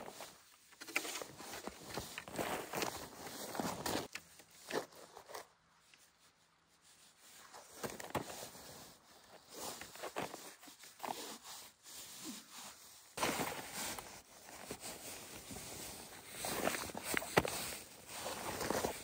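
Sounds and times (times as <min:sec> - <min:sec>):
sticks rustling and rubbing: 0:00.0 - 0:19.0.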